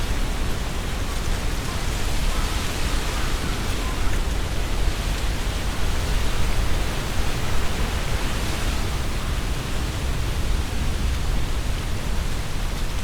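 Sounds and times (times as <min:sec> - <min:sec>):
wind rustling leaves: 0:00.0 - 0:13.0.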